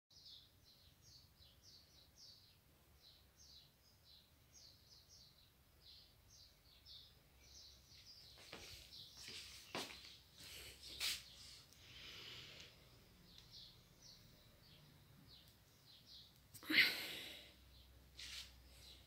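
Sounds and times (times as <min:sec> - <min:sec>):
faint bird chirping: 0:00.1 - 0:19.0.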